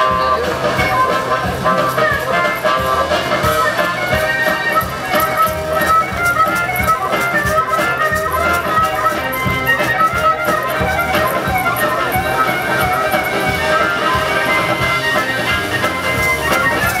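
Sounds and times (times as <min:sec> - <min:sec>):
melody of held notes: 0:00.0 - 0:17.0.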